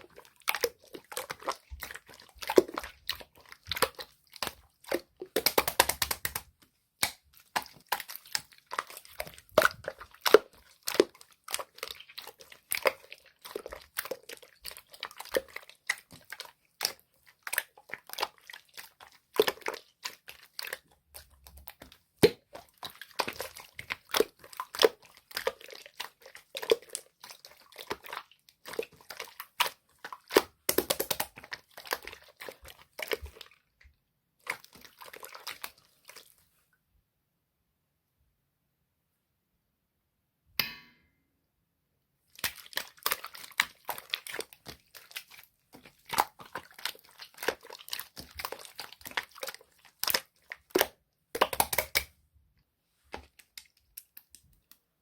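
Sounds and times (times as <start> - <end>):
slime squishing with sticky pops: 0.0 - 36.4, 42.3 - 52.2, 53.0 - 54.9.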